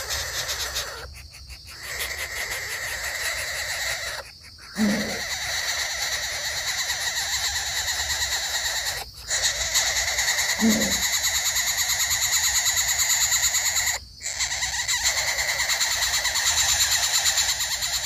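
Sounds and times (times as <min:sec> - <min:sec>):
chorus of frogs or insects: 0:00.0 - 0:18.0.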